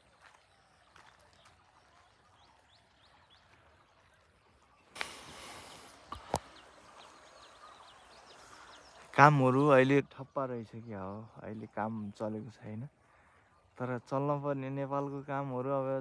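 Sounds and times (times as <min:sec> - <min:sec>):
faint bird chirps: 0:00.1 - 0:16.0.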